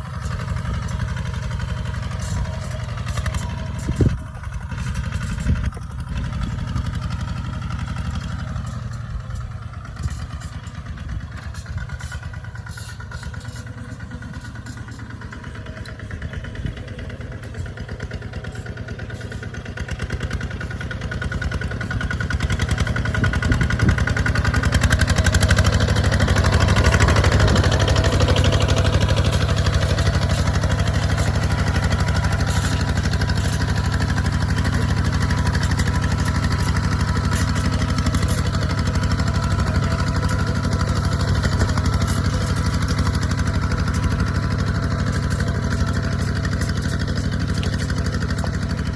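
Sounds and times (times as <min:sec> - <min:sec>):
diesel engine running steadily: 0:00.0 - 0:48.9.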